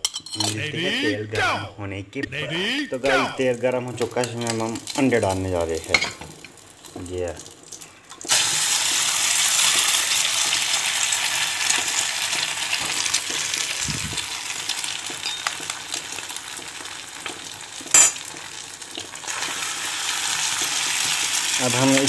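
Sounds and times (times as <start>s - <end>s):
egg sizzling in hot oil: 3.4s - 22.0s.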